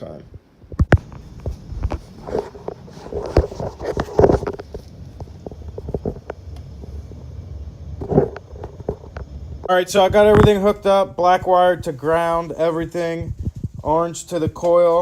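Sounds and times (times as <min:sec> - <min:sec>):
low background rumble: 0:00.5 - 0:14.1.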